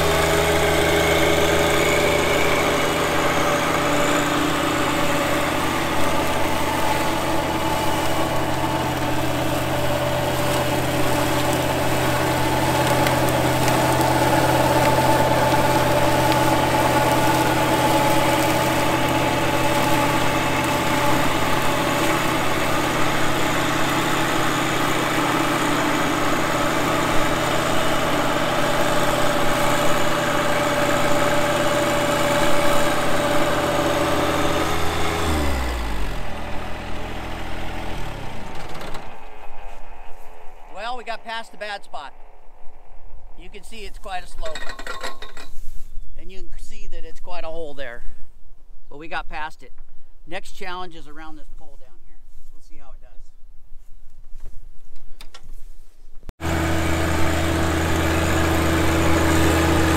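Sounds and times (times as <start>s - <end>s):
flail mower cutting grass: 0.0s - 42.3s, 43.4s - 45.9s, 56.4s - 59.9s
tractor diesel engine under load: 0.0s - 45.6s, 56.3s - 59.9s.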